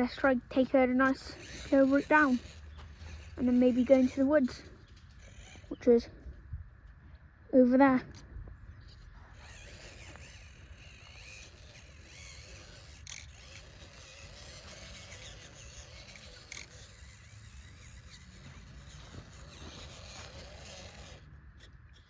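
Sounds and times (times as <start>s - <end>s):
toy car motor whining: 0.0s - 6.4s, 7.6s - 22.0s.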